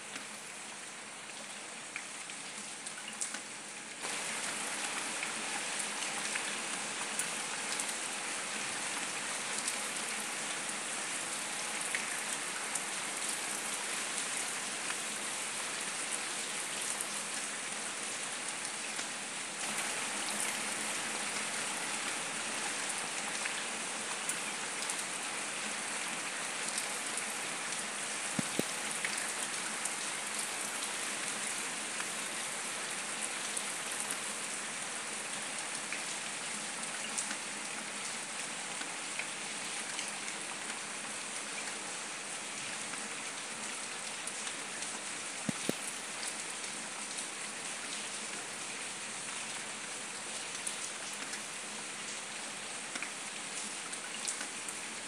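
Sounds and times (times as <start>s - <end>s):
rain on paving and puddles: 0.1s - 55.0s.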